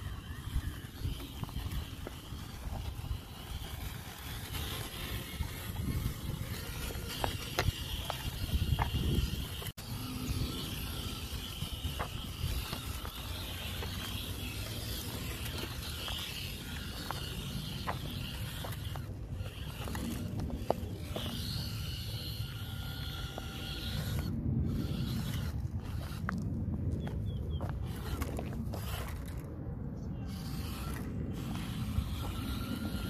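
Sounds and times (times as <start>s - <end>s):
small electric motor whining: 0.0s - 33.0s
tires clicking on rock: 0.0s - 33.0s.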